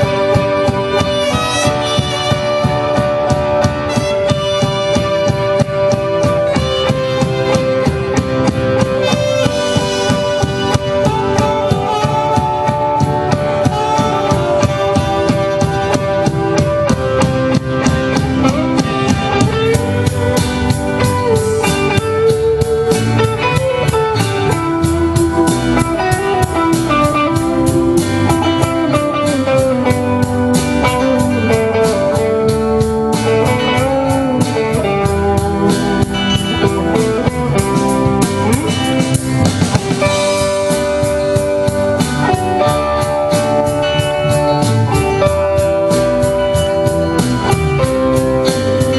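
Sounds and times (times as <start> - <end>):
drum kit beat: 0.0 - 48.9
guitar melody: 0.0 - 48.9.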